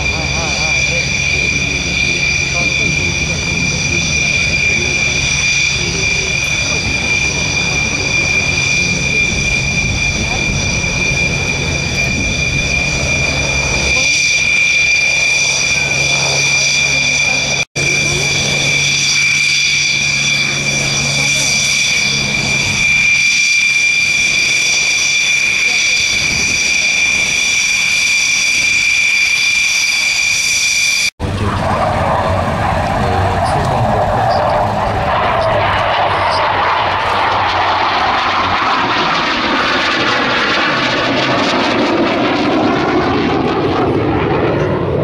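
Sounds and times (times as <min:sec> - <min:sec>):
jet engine low rumble: 0:00.0 - 0:45.0
jet engine whine: 0:00.0 - 0:45.0.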